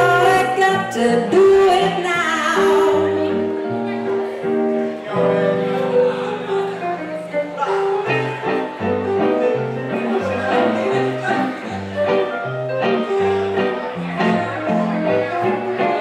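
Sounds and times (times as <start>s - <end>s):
keyboard playing: 0.0s - 16.0s.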